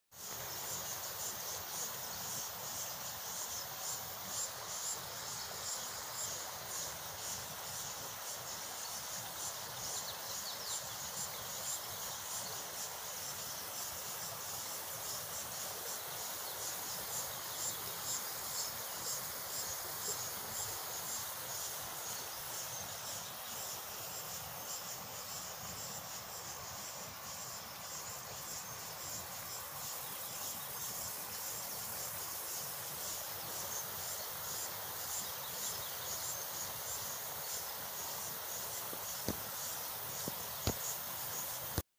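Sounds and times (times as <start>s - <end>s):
crickets chirping: 0.1s - 41.8s
background hiss: 0.1s - 41.9s.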